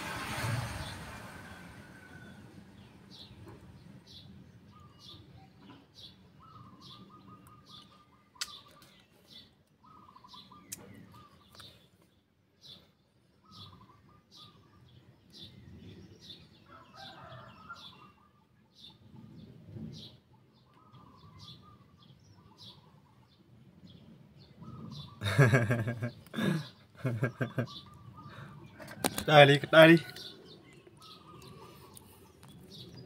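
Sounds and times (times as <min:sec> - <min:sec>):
bird chirping: 0:00.6 - 0:33.0.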